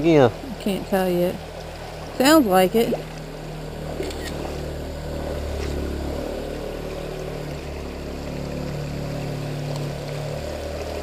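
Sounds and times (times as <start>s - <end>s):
distant vehicle engine drone: 0.0s - 11.0s
shallow rocky creek flowing: 0.0s - 11.0s.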